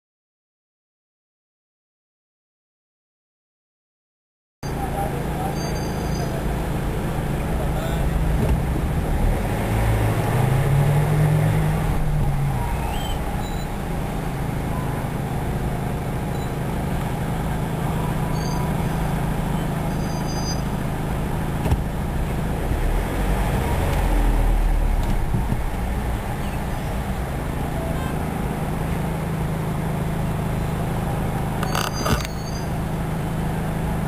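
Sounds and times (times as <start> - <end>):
car engine droning: 4.6 - 34.0.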